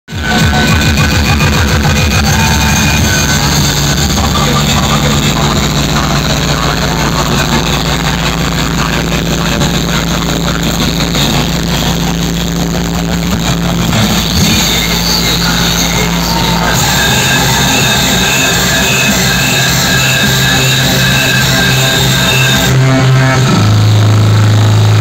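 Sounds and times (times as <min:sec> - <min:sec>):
loud music with heavy bass: 0:00.1 - 0:25.0.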